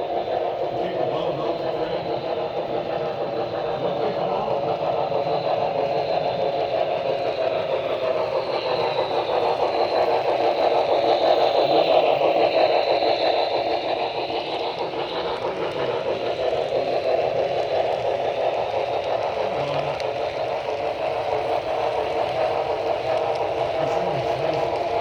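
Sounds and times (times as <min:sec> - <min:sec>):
model train wheels rumbling on rail: 0:00.0 - 0:25.0.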